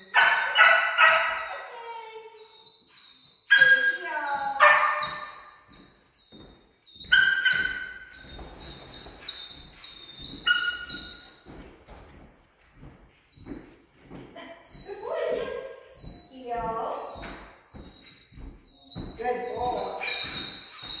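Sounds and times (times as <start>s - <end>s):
footsteps on laminate floor: 3.6s - 21.0s.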